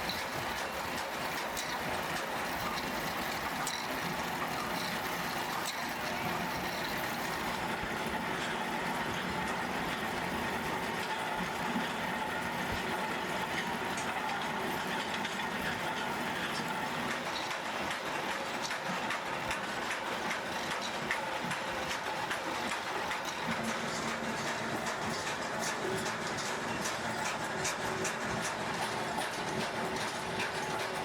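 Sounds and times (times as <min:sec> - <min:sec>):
workshop machinery drone: 0:00.0 - 0:31.0.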